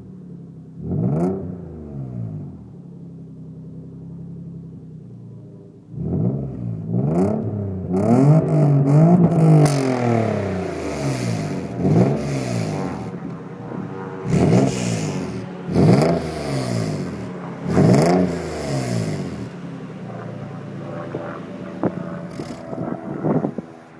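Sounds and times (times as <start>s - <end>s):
car exhaust revving: 0.0s - 23.9s.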